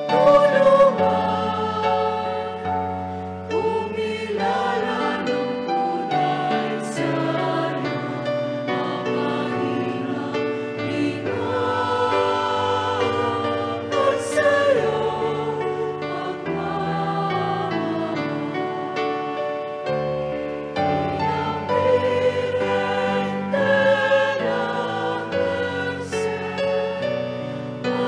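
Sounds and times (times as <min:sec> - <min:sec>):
choir singing a hymn: 0:00.0 - 0:28.0.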